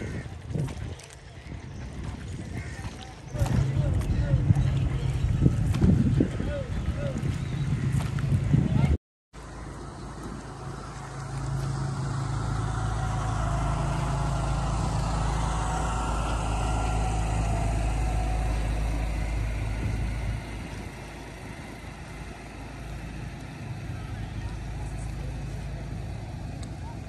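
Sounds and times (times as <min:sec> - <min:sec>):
water splashing along hull: 0:00.0 - 0:08.5, 0:09.4 - 0:27.0
boat engine droning: 0:00.0 - 0:08.8, 0:09.4 - 0:27.0.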